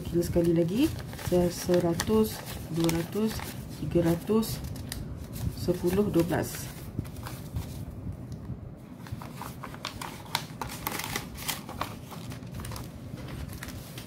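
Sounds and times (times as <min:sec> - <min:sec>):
paper rustling and flicking: 0:00.0 - 0:07.8, 0:09.0 - 0:14.0.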